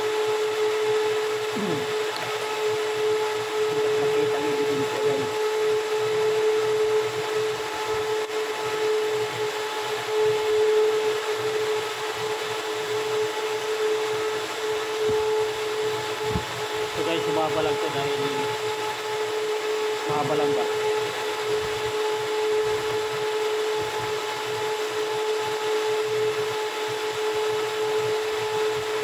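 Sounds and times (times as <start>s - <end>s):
electric motor running: 0.0s - 29.0s.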